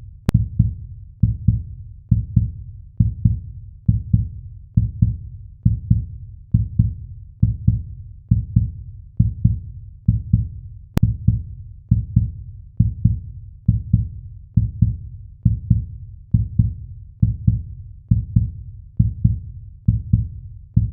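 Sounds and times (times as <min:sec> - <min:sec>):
heartbeat double thump: 0:00.3 - 0:20.9.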